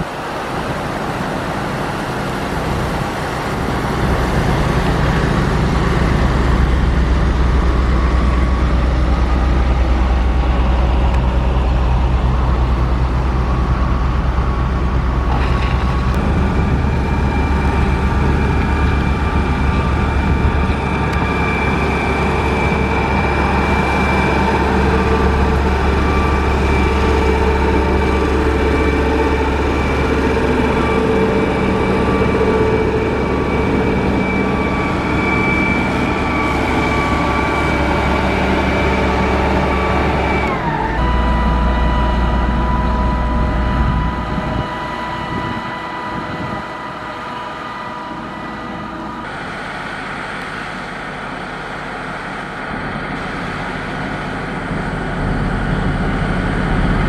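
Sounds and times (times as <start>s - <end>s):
diesel engine drone: 0.0s - 57.0s
high whine: 0.0s - 57.0s.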